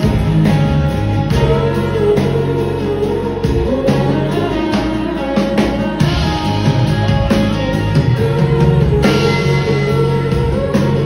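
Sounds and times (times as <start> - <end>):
drum kit: 0.0 - 11.0
rock band playing live: 0.0 - 11.0.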